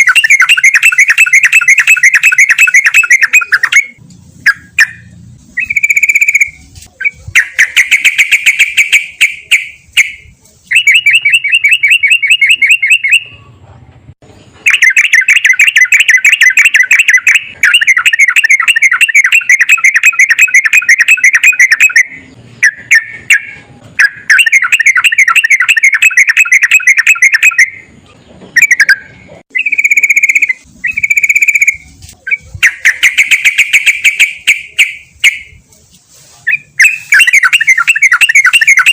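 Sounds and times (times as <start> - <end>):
bird singing rapid notes: 0.0 - 13.4, 14.6 - 27.9, 28.5 - 35.6, 36.5 - 38.9.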